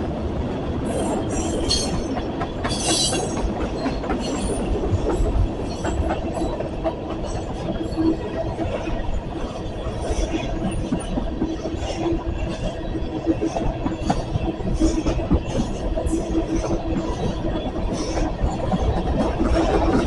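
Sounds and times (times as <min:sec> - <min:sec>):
train wheels rumbling on rails: 0:00.0 - 0:20.0
clicks of train wheels: 0:01.0 - 0:20.0.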